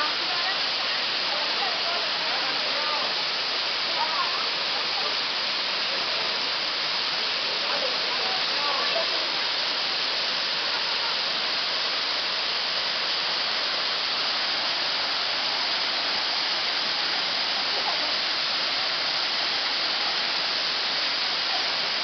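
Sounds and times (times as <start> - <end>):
waterfall pouring onto rocks: 0.0 - 22.0.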